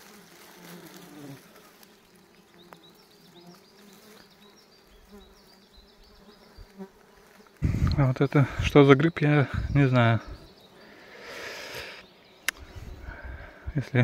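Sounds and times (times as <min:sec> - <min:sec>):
flying insect buzzing: 0:00.0 - 0:08.8, 0:09.4 - 0:13.7.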